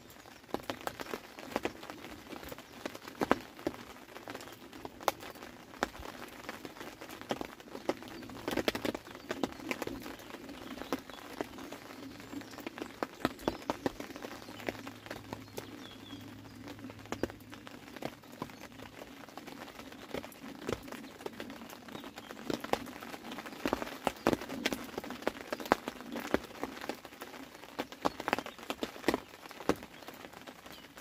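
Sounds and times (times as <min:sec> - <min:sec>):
rain patter: 0:00.0 - 0:31.0
raindrops tapping near microphone: 0:00.0 - 0:31.0.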